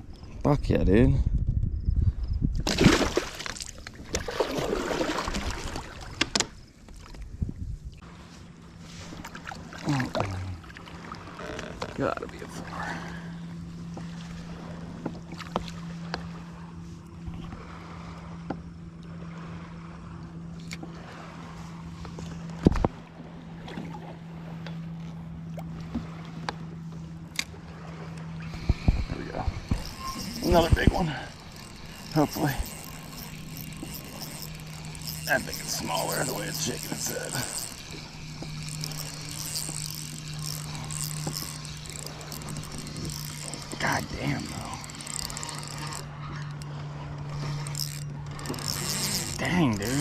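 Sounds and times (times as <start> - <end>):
steady low hum: 0.0 - 50.0
water splashing around a kayak: 2.6 - 50.0.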